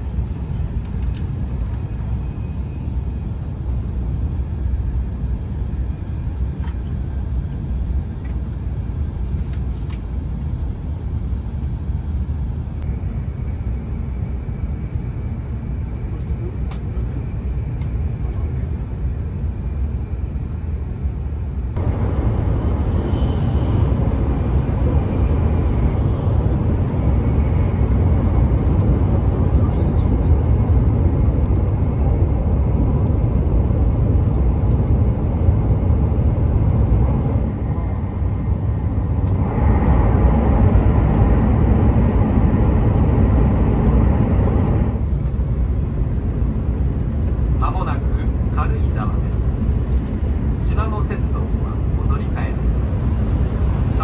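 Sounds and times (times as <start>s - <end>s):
train rumbling inside cabin: 0.0s - 54.0s.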